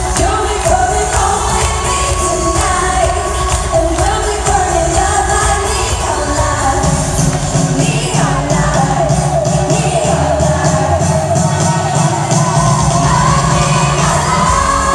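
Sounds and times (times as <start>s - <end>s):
heavy bass: 0.0s - 14.9s
person singing: 0.0s - 14.9s
steady drum beat: 0.0s - 14.9s.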